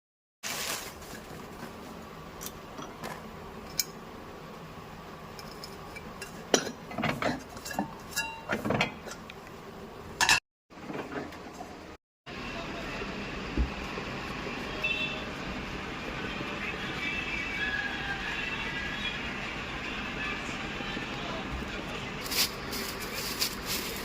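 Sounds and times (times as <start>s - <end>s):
workshop hum: 0.4s - 24.0s.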